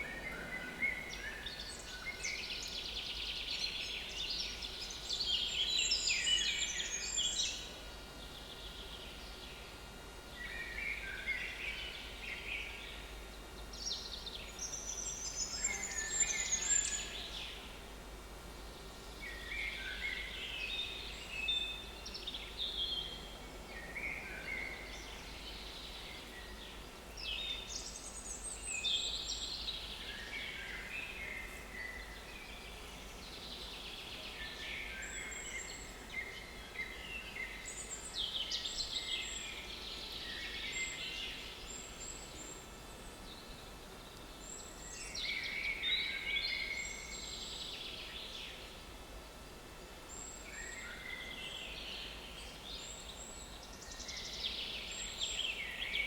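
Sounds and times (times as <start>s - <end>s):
soft background hiss: 0.0s - 56.0s
songbirds chirping and trilling: 0.0s - 56.0s.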